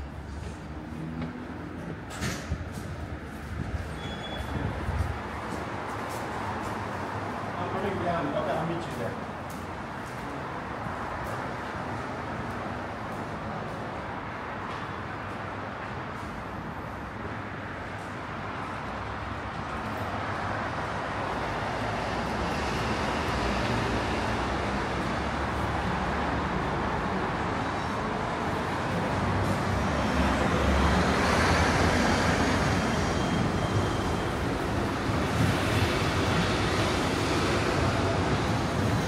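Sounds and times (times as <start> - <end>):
vehicle noise rumble: 0.0 - 39.0.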